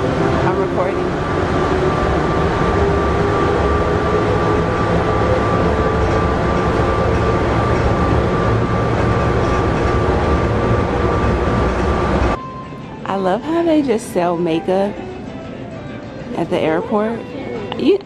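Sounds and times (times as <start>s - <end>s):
train rumbling through tunnel: 0.0s - 18.0s.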